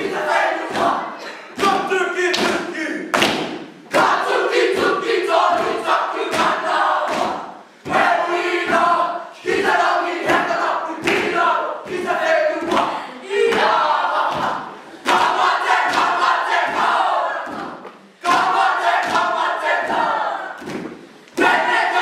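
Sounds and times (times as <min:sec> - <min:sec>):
boys shouting chant in unison: 0:00.0 - 0:03.0, 0:03.9 - 0:20.7, 0:21.4 - 0:22.0.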